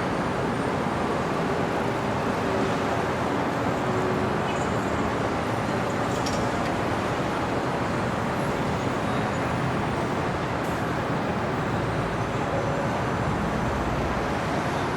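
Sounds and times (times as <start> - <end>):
city traffic road noise: 0.0 - 14.9.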